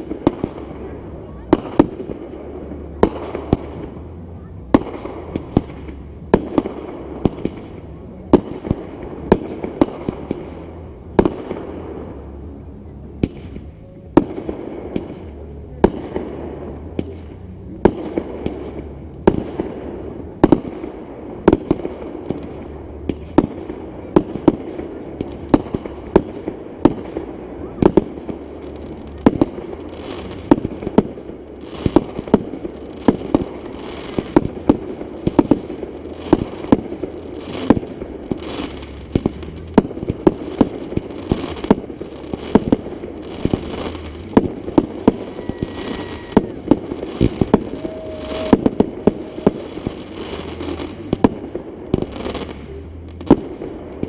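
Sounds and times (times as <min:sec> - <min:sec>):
continuous haze of noise: 0:00.0 - 0:54.0
fireworks bangs: 0:00.0 - 0:54.0.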